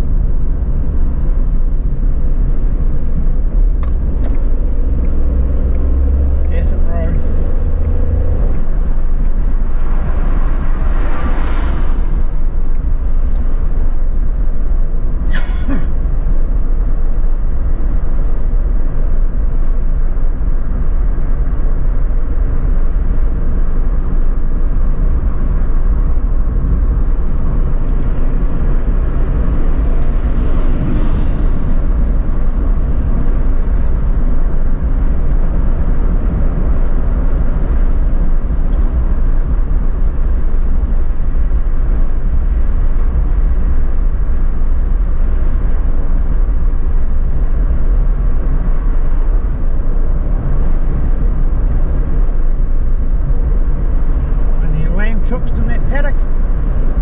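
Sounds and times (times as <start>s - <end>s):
passing vehicle whoosh: 0.0s - 15.3s, 16.0s - 57.0s
car engine and road rumble: 0.0s - 57.0s.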